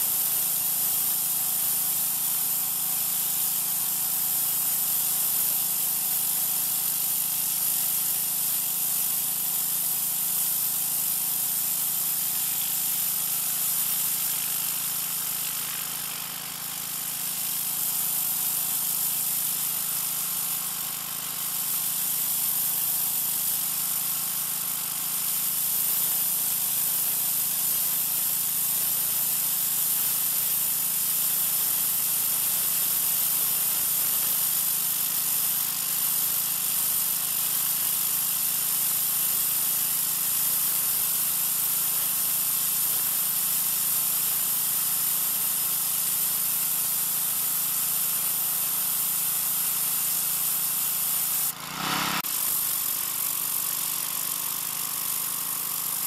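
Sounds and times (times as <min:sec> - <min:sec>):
pressure washer running: 0:00.0 - 0:56.0
water jet hissing on concrete: 0:00.0 - 0:56.0.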